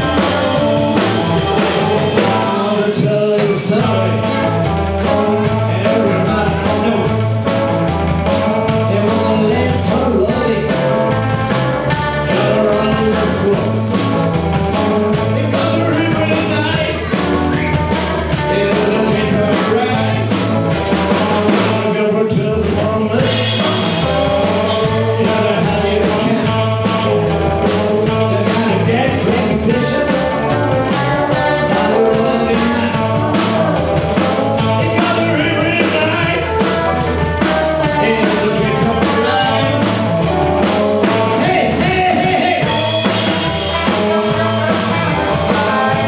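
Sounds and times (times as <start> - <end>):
bass guitar: 0.0 - 46.0
drums: 0.0 - 46.0
electric guitar: 0.0 - 46.0
man singing: 0.0 - 46.0.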